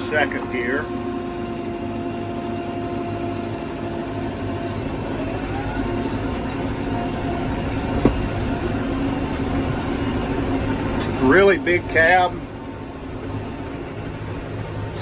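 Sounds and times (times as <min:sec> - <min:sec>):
rising whine: 0:00.0 - 0:15.0
tractor diesel engine running: 0:00.0 - 0:15.0.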